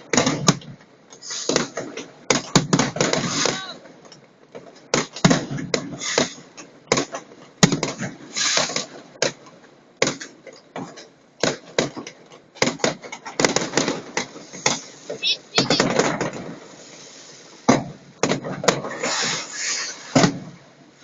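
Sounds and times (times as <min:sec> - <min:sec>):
hissing crackle: 0:00.0 - 0:10.3, 0:12.6 - 0:21.0
fireworks bangs and pops: 0:00.0 - 0:21.0.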